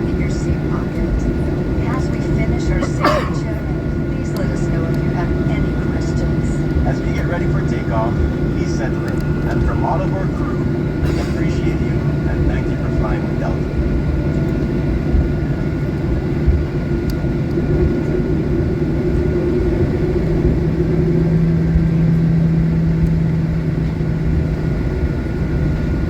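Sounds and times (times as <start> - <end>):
airliner cabin rumble: 0.0 - 26.0
faint steady whine: 0.0 - 26.0
low hum: 0.0 - 26.0.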